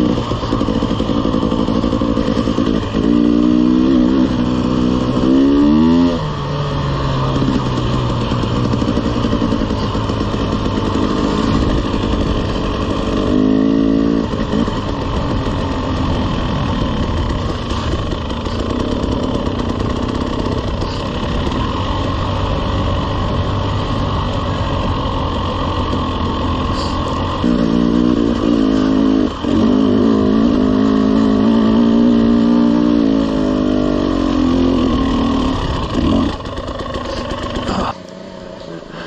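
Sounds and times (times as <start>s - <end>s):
two-stroke dirt bike engine: 0.0s - 39.0s.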